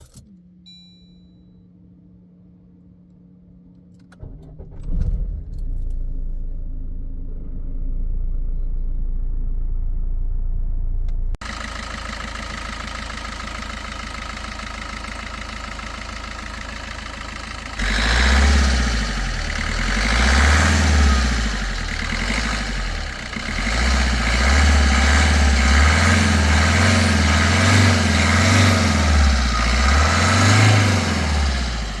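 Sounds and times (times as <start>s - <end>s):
diesel engine starting and revving: 4.0s - 32.0s.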